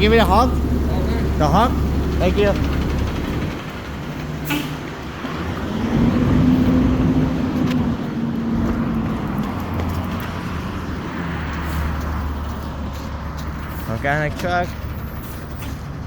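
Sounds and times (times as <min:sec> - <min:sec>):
garbage truck engine rumble: 0:00.0 - 0:16.0.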